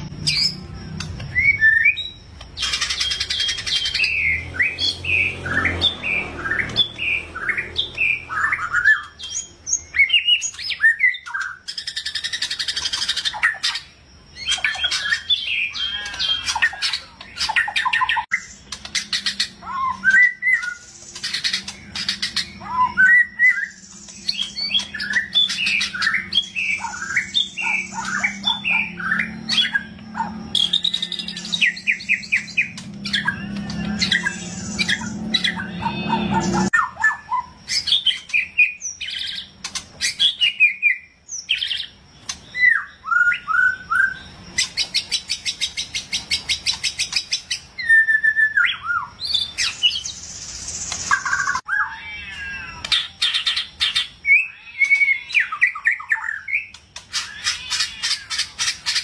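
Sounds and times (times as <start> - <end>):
bird whistling song: 0.0 - 59.0
bird rasping chatter: 2.0 - 9.6, 10.3 - 40.6, 49.4 - 59.0.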